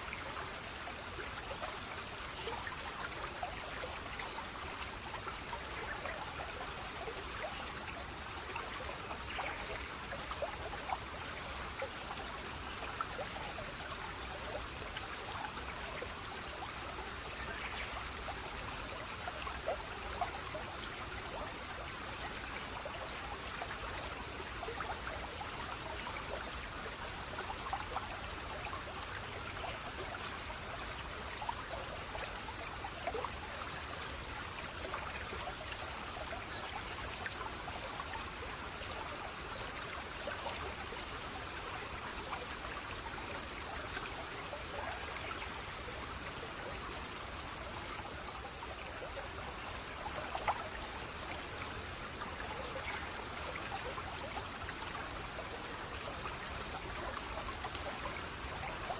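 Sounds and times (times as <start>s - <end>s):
small stream trickling: 0.0s - 58.9s.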